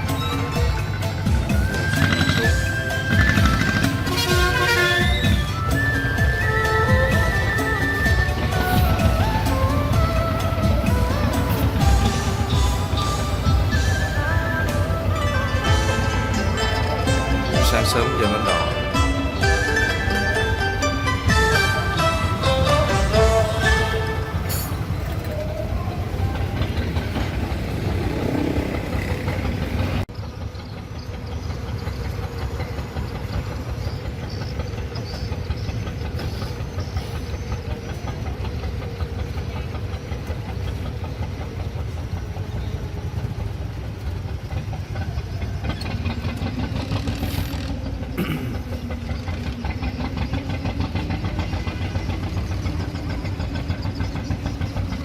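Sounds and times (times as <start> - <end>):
ferry engine knocking rumble: 0.0 - 55.0.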